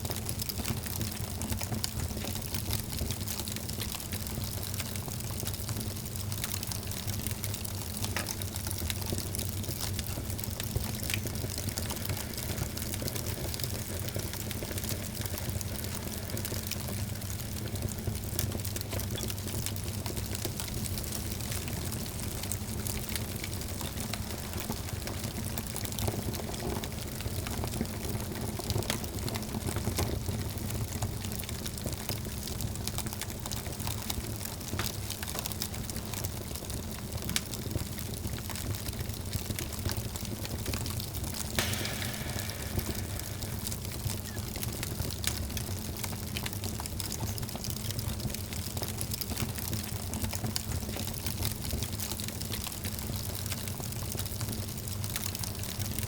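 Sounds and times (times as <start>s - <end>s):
low rumble of fire: 0.0s - 56.0s
wood fire crackling and popping: 0.1s - 56.0s.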